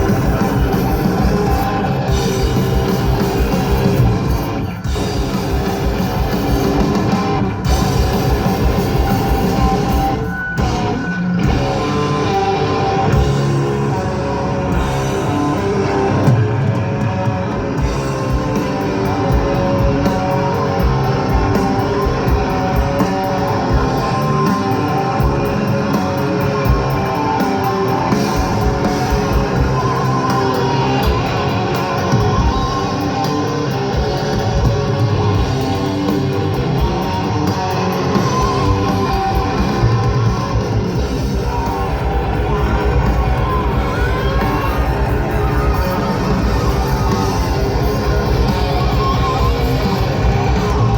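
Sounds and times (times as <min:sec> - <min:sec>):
death metal band playing live: 0:00.0 - 0:50.9.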